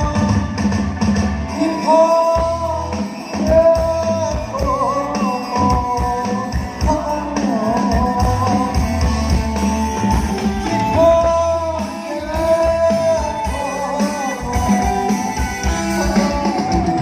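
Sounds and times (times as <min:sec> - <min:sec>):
band playing a song: 0:00.0 - 0:17.0.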